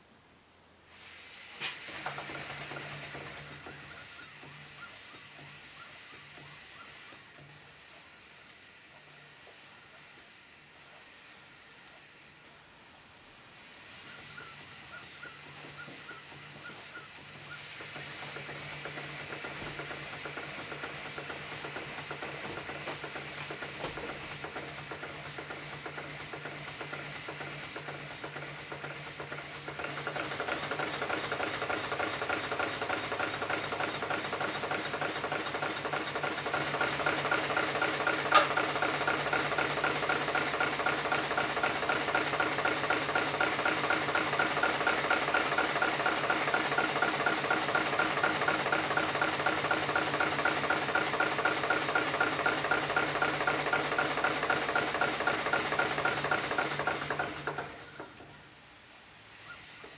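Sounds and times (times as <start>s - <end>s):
steam hiss: 0.8s - 59.9s
steam engine knocking: 1.5s - 12.1s, 13.6s - 58.4s.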